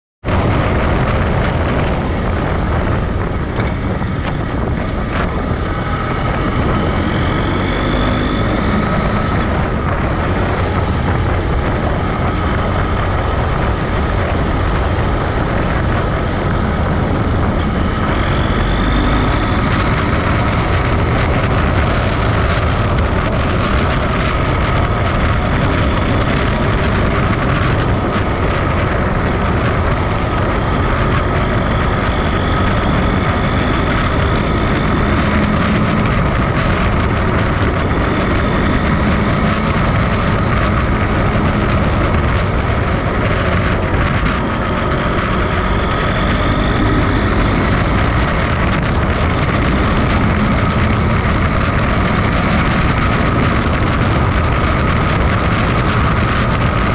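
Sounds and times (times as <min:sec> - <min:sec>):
motorcycle engine running: 0:00.2 - 0:56.9
wind rush on microphone: 0:00.2 - 0:56.9.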